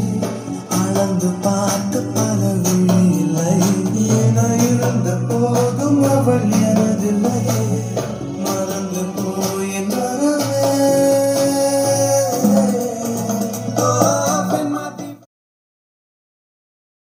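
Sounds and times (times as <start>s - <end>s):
film song through speaker: 0.0s - 15.3s.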